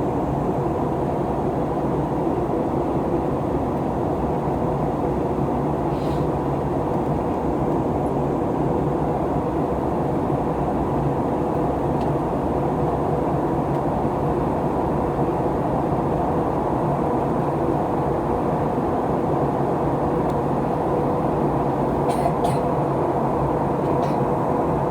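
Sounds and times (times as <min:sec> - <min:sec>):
airplane cabin engine roar: 0:00.0 - 0:24.9.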